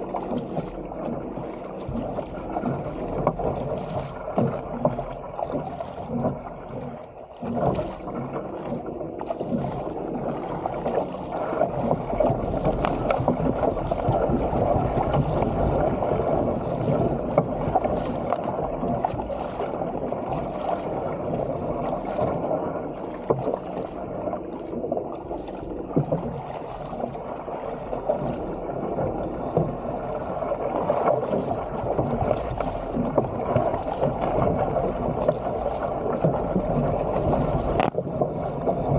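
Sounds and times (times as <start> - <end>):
paddle blades dipping in water: 0.0 - 38.9
sea water splashing along kayak hull: 0.0 - 38.9.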